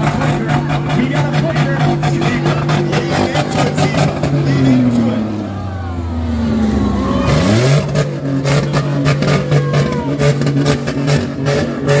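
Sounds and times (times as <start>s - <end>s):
car engine revving rough: 0.0s - 12.0s.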